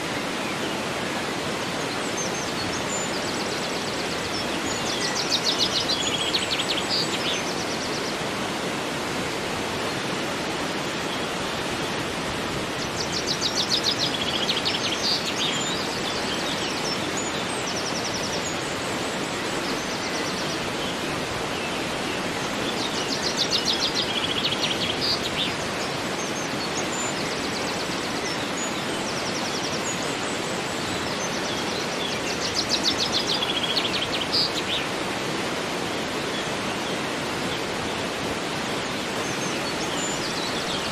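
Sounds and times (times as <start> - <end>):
flowing river water: 0.0 - 40.9.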